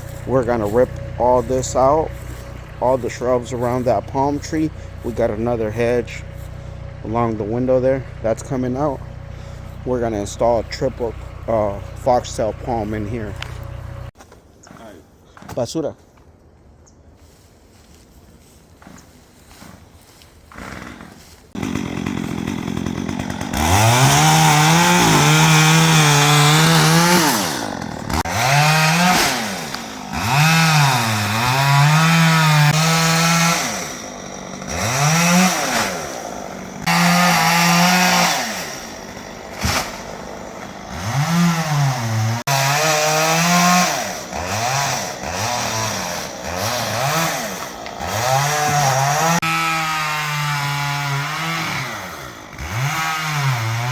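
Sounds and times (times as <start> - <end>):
chainsaw revving: 0.0 - 14.1, 20.5 - 53.9.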